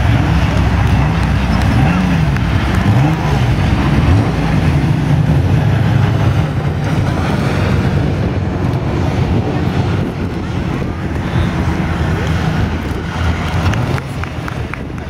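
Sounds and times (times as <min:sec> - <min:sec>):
race cars passing at high revs: 0:00.0 - 0:15.0.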